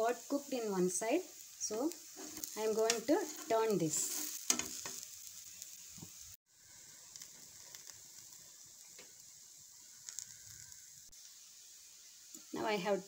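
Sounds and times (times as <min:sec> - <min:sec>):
batter frying in oil: 0:00.0 - 0:13.0.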